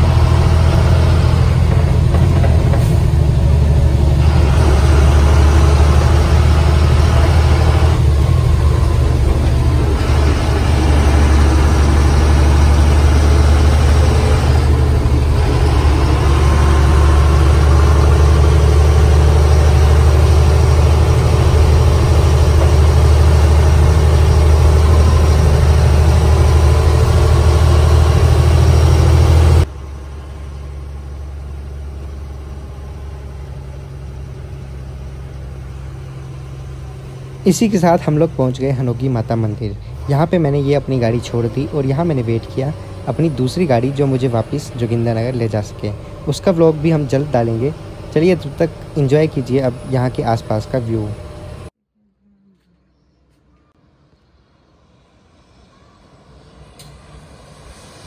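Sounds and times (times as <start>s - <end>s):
road noise: 0.0s - 51.8s, 52.6s - 58.0s
bus engine droning: 0.0s - 58.0s.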